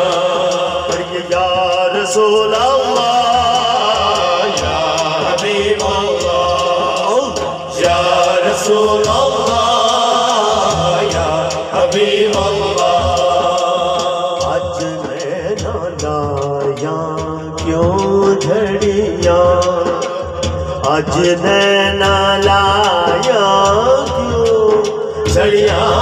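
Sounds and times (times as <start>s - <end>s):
barrel drum beat: 0.0s - 26.0s
man singing over loudspeaker: 0.0s - 26.0s.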